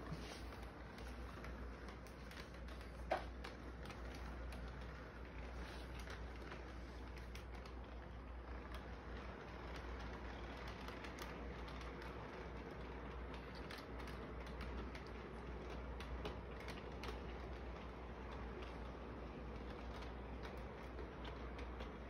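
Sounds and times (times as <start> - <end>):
model train whirring: 0.0 - 22.0.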